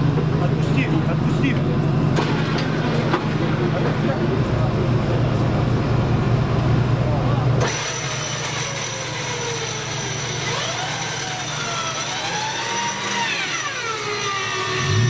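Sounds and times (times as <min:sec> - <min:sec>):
steady noisy background: 0:00.0 - 0:15.0
vehicle mechanical whine: 0:00.0 - 0:15.0.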